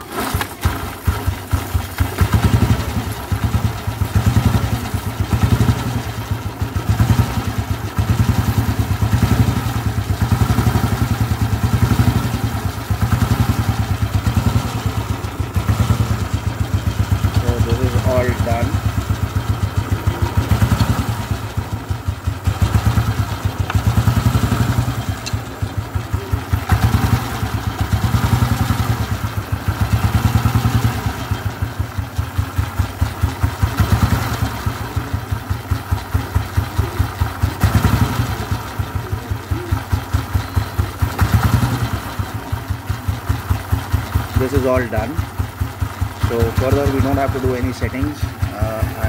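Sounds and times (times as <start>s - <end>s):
single-cylinder motorcycle engine running: 0.0s - 49.0s.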